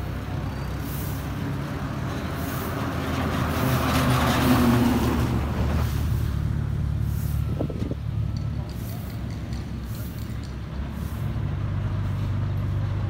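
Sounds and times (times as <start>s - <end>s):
low engine hum: 0.0s - 13.0s
vehicle passing by: 0.0s - 13.0s.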